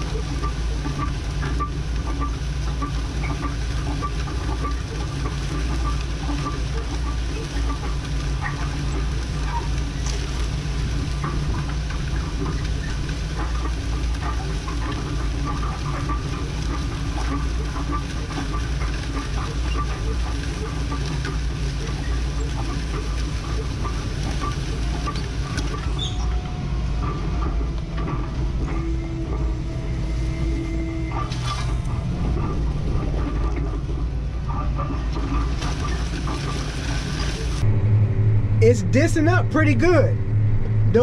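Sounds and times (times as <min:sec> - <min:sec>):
implement rattling and clicking: 0:00.0 - 0:37.7
tractor engine droning: 0:00.0 - 0:41.0.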